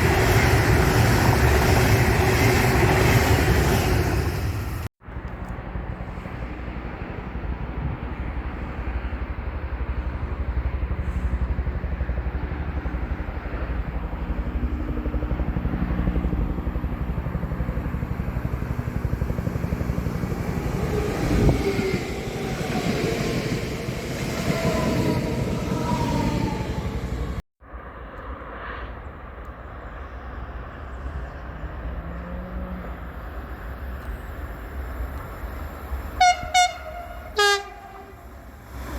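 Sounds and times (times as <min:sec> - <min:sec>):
train wheels rumbling on rail: 0:00.0 - 0:27.4, 0:33.2 - 0:38.9.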